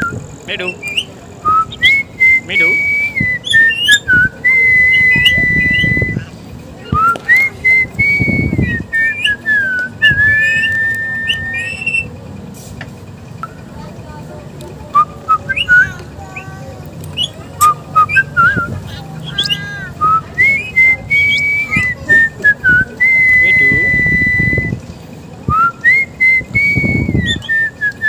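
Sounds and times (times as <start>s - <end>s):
parakeet whistling: 0.0s - 12.2s, 14.9s - 24.8s, 25.5s - 28.0s.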